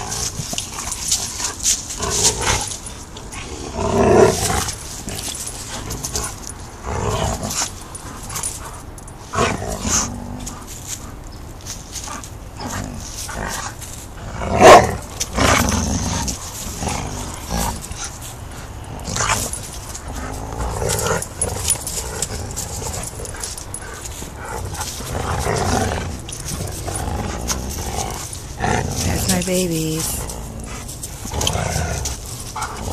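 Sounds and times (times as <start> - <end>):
dogs growling in play: 0.0 - 32.9.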